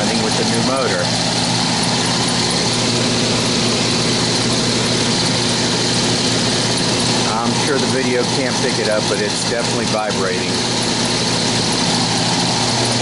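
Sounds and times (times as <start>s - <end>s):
blower motor humming: 0.0s - 13.0s
fan air rushing: 0.0s - 13.0s.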